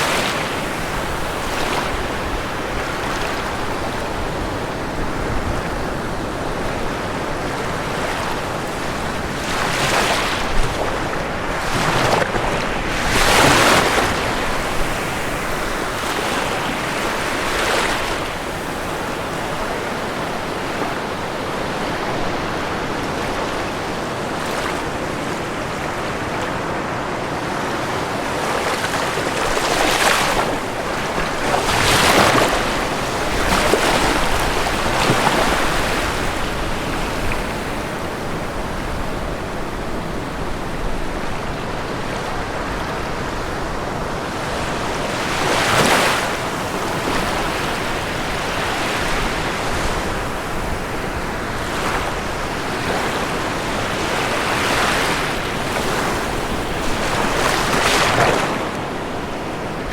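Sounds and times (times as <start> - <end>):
ocean surf washing: 0.0 - 59.9
waves breaking: 0.0 - 59.9.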